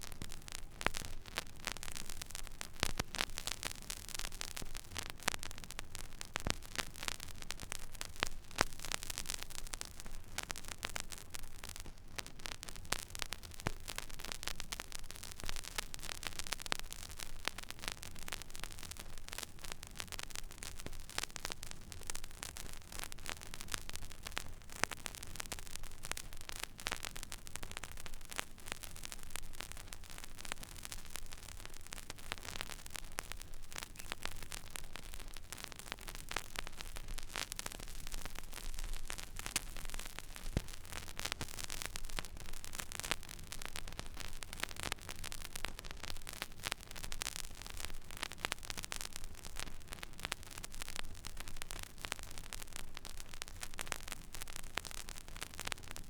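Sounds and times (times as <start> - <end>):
vinyl crackles and clicks: 0.0 - 56.0
vinyl surface hiss: 0.0 - 56.0.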